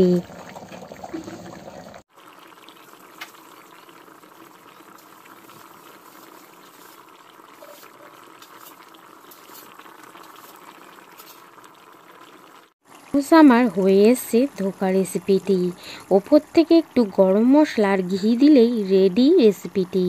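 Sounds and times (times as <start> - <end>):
curry bubbling and popping: 0.0 - 18.6.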